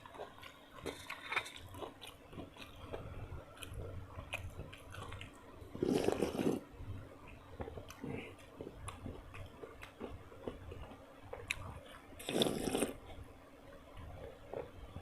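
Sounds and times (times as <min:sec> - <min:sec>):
person chewing food: 0:00.0 - 0:13.3.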